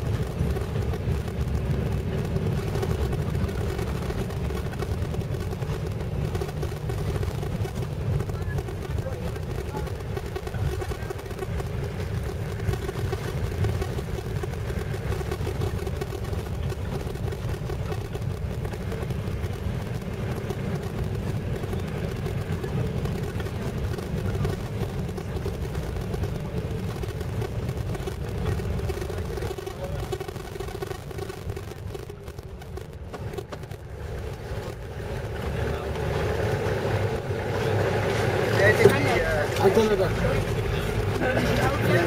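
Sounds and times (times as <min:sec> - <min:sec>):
vehicle engine and tyre rumble: 0:00.0 - 0:42.0.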